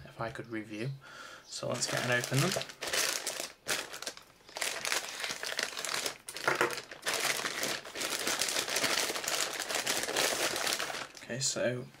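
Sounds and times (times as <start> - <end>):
plastic bag crinkling: 1.7 - 11.3.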